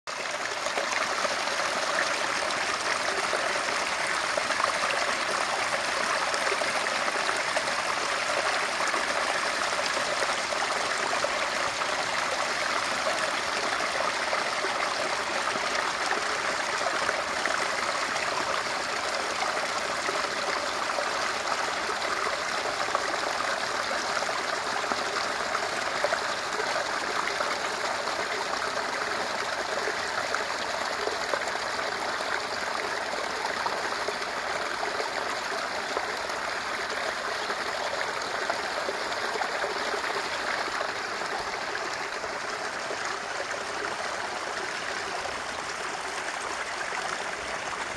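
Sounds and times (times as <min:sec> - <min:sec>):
brook water flowing: 0:00.1 - 0:47.9.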